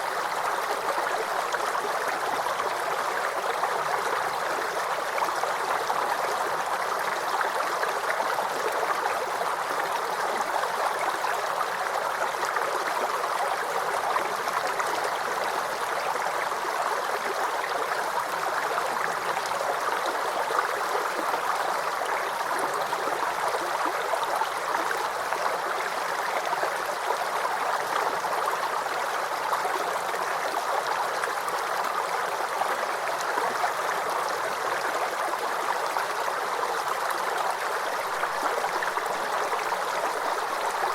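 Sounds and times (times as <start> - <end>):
brook water gurgling over stones: 0.0 - 40.9.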